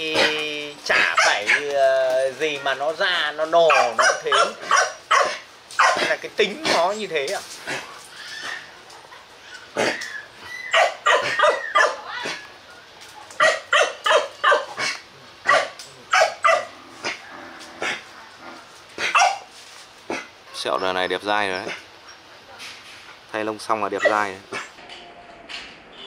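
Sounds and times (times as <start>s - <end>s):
dogs barking and yipping: 0.0s - 1.8s, 2.4s - 24.8s.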